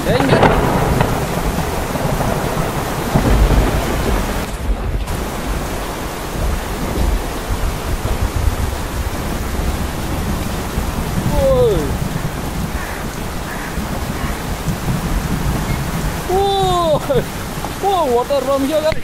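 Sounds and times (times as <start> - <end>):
deep gusty rumble: 0.0 - 18.5
heavy rain on street: 0.0 - 19.0
water running over street: 0.0 - 19.0.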